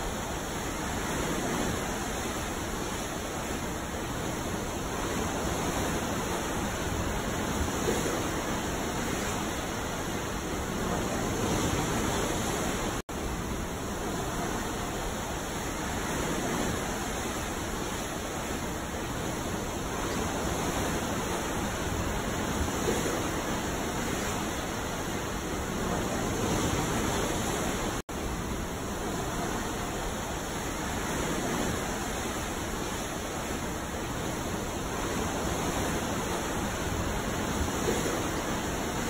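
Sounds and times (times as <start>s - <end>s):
ocean waves washing: 0.0s - 39.0s.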